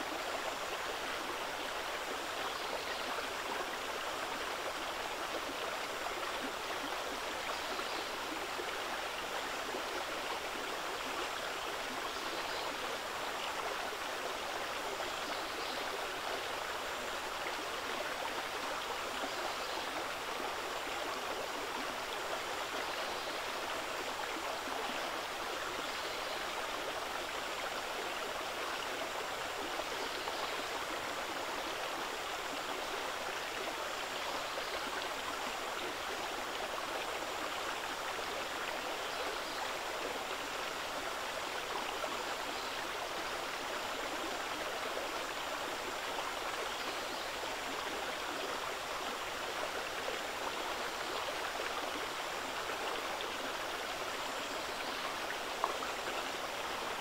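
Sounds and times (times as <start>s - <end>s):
spring water babbling: 0.0s - 57.0s.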